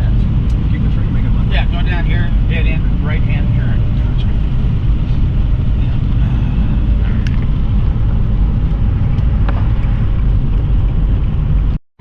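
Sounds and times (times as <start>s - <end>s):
car engine and road rumble: 0.0s - 11.8s.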